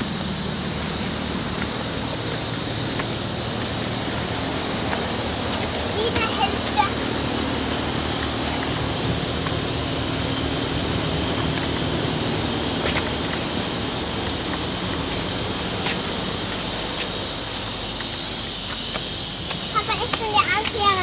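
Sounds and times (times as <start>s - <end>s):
insects high-pitched hiss: 0.0s - 21.0s.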